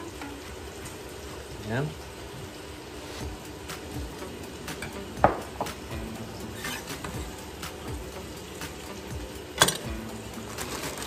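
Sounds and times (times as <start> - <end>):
pork sizzling in a pan: 0.0 - 11.0.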